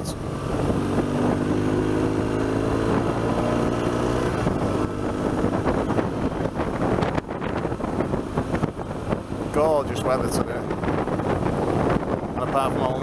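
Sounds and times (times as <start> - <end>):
motorcycle engine running: 0.0 - 13.0
road noise: 0.0 - 13.0
wind on microphone: 0.0 - 13.0.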